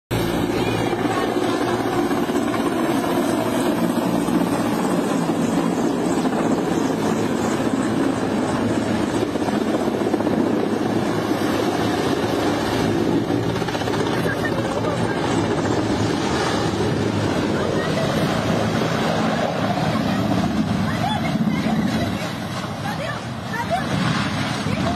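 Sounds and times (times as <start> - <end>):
helicopter rotor and engine noise: 0.1 - 24.9.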